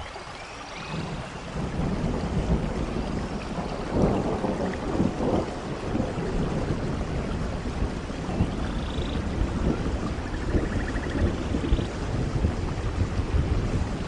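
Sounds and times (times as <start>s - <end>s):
steady rain: 0.0s - 14.0s
thunder rumbling: 0.9s - 14.0s.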